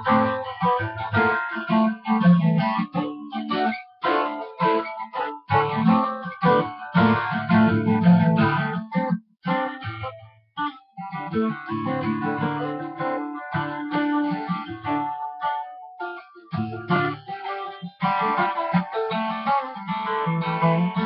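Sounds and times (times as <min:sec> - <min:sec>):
guitar playing: 0:00.0 - 0:21.0.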